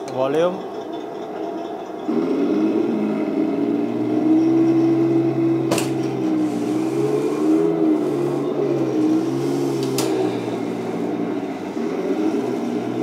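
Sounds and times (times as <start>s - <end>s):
simulated engine sound from speaker: 0.0s - 13.0s.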